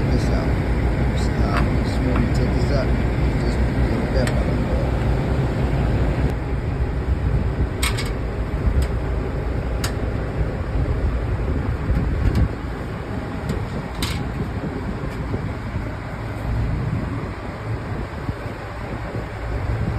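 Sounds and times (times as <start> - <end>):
low rumble: 0.0 - 19.9.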